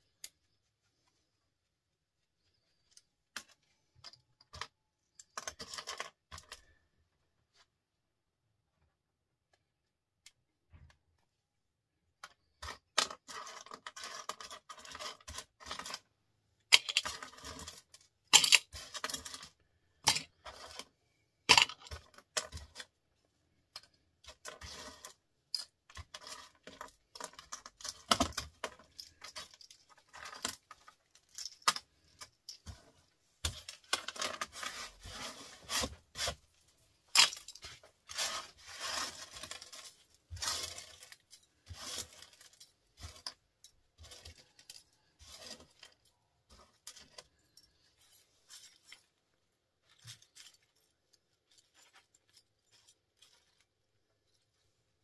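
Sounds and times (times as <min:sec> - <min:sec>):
small parts clicking and clinking: 0:02.4 - 0:06.8, 0:12.1 - 0:54.6.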